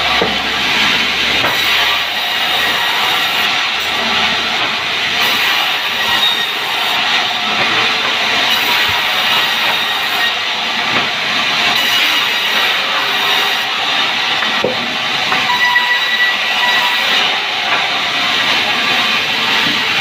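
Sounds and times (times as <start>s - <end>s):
band saw cutting wood: 0.0s - 20.0s.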